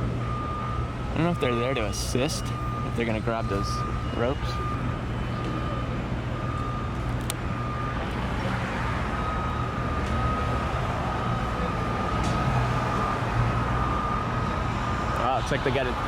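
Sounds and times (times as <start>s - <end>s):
construction machinery drone: 0.0s - 16.0s
high electronic alarm tone: 0.0s - 16.0s.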